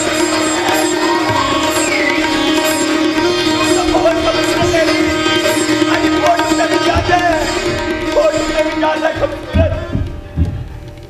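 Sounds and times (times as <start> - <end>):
hand-drum strokes: 0.0 - 11.0
sitar melody: 0.0 - 11.0.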